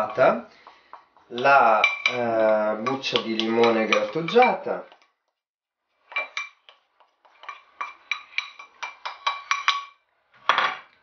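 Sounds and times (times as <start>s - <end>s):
spoon clinking on ceramic bowls: 0.0s - 5.1s, 6.0s - 10.9s.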